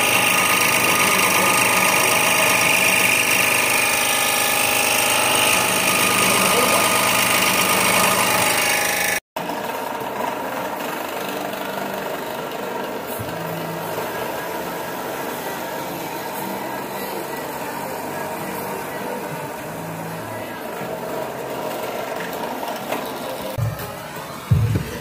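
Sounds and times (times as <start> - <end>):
scroll saw cutting wood: 0.0 - 25.0.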